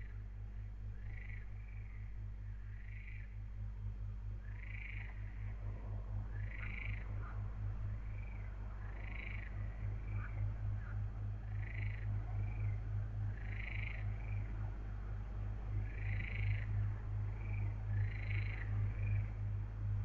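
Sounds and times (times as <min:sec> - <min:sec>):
frogs croaking: 0:00.0 - 0:19.8
steady low hum: 0:00.0 - 0:20.0.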